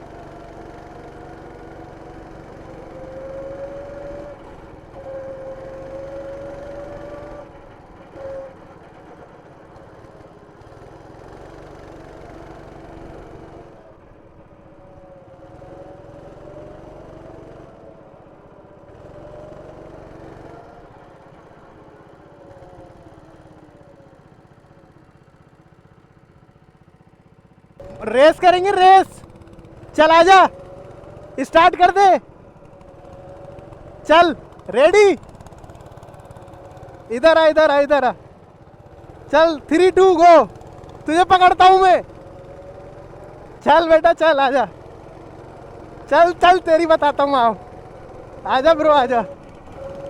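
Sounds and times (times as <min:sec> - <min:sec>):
go-kart engine revving: 0:00.0 - 0:50.0.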